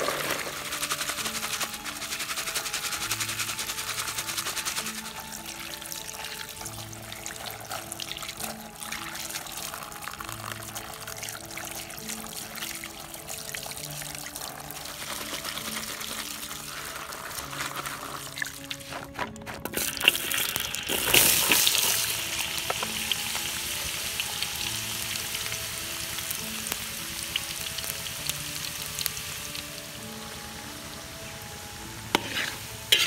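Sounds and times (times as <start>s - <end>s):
slow instrumental melody: 0.0s - 33.0s
water pouring and splashing: 0.0s - 33.0s.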